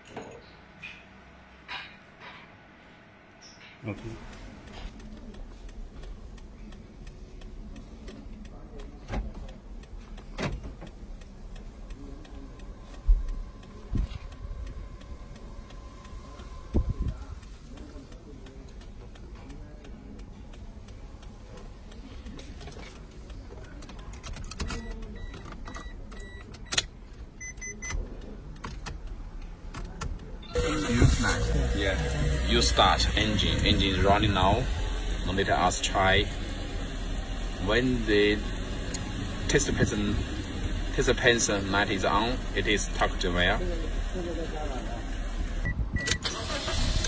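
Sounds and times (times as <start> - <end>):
car engine idling: 3.9 - 24.0, 28.0 - 47.0.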